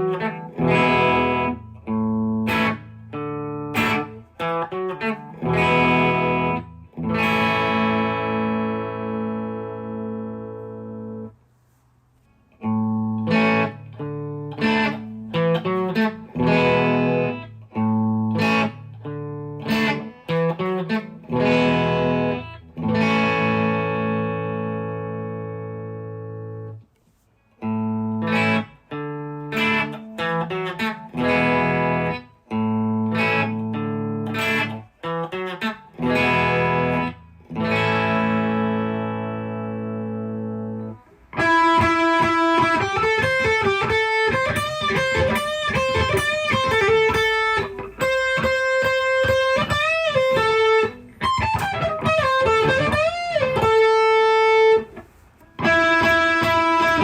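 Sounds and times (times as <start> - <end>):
electric guitar chords ringing: 0.0 - 11.3, 12.6 - 26.8, 27.6 - 57.0
electric guitar lead with bends: 0.0 - 11.3, 12.6 - 26.8, 27.6 - 57.0.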